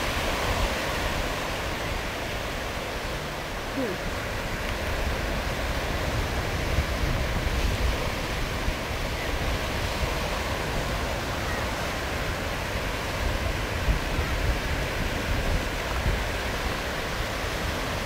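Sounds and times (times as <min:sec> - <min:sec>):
surf breaking on beach: 0:00.0 - 0:18.0
wind noise on microphone: 0:00.0 - 0:18.0.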